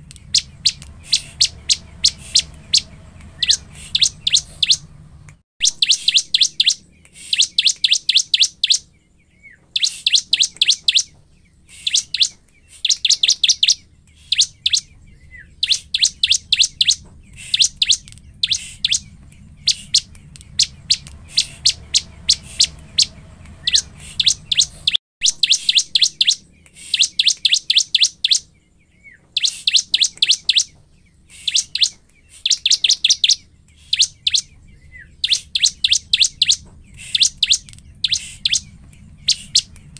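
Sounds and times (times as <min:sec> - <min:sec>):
bird singing sharp high notes: 0:00.0 - 0:05.0, 0:05.6 - 0:39.9.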